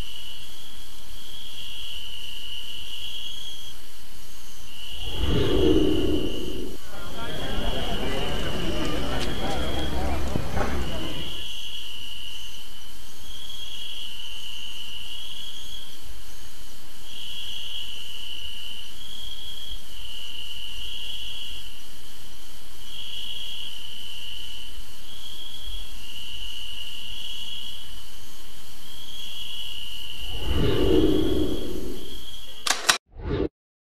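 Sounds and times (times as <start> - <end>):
crickets chirping: 0.0 - 32.7.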